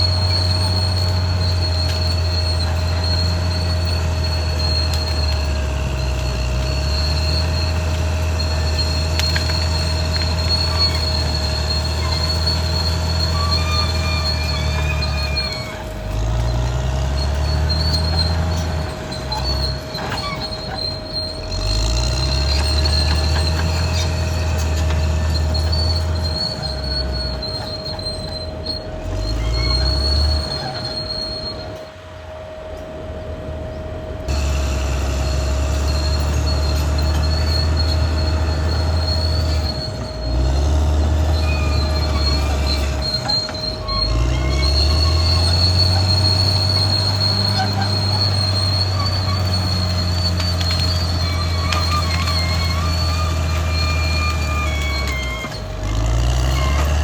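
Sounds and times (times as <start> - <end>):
bulldozer diesel engine drone: 0.0 - 57.0
steel tracks whining: 0.0 - 57.0.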